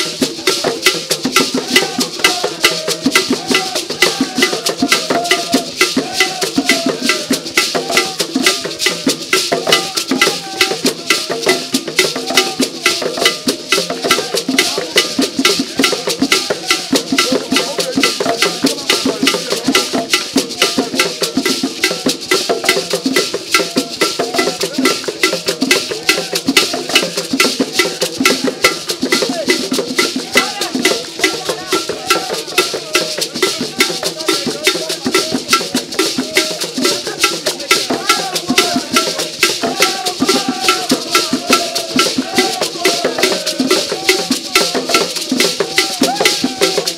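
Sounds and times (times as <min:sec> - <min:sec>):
wooden drum ensemble: 0:00.0 - 0:46.9.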